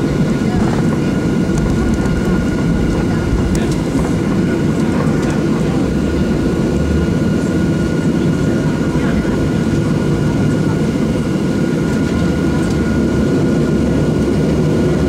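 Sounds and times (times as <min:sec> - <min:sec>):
aircraft cabin low rumble: 0:00.0 - 0:15.0
jet engine high whine: 0:00.0 - 0:15.0.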